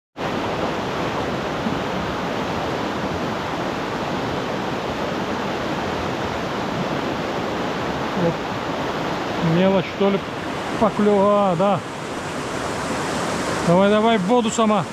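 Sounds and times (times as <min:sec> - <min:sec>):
river rushing: 0:00.2 - 0:14.9.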